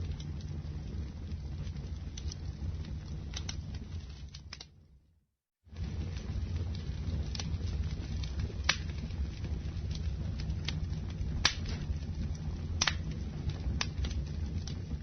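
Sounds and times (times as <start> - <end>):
wood crackles and pops: 0.0 - 4.9, 5.6 - 15.0
campfire low rumble: 0.0 - 15.0.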